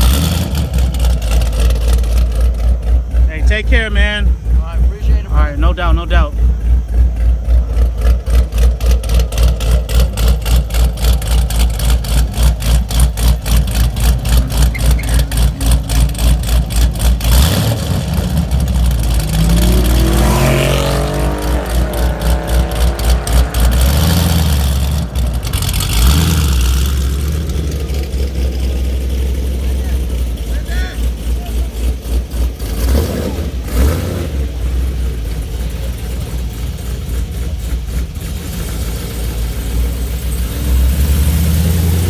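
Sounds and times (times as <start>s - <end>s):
car engine revving: 0.0s - 42.0s
low pulsing engine: 0.0s - 42.0s.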